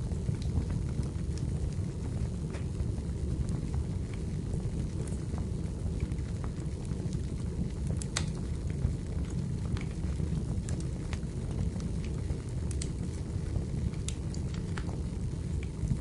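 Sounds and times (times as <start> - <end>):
fire rumbling: 0.0 - 16.0
firewood crackling and popping: 0.0 - 16.0.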